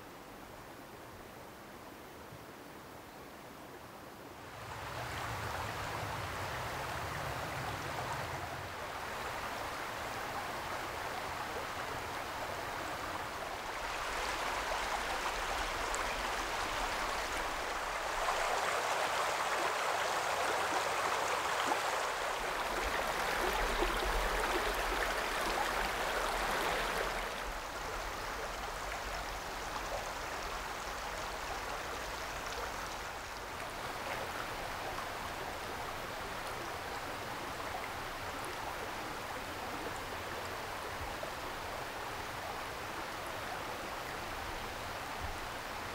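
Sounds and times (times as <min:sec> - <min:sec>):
creek babbling over gravel: 0:04.6 - 0:43.2.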